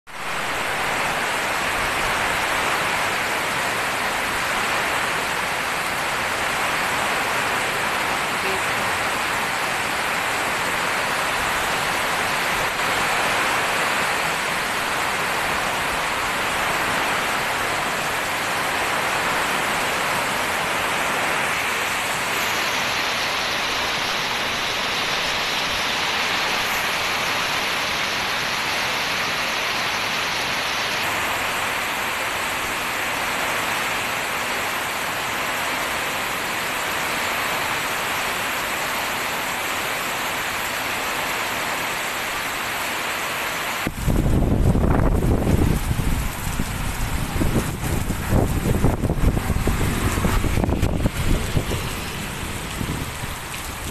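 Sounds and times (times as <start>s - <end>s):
heavy rain pouring: 0.1s - 53.9s.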